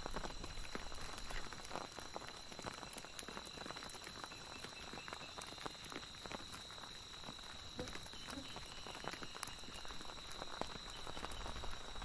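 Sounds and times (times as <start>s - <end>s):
crickets calling: 0.0s - 12.0s.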